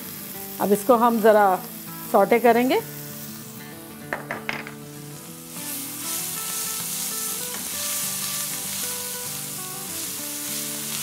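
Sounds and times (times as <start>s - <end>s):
background music: 0.0s - 11.0s
paste sizzling in hot oil: 0.0s - 11.0s.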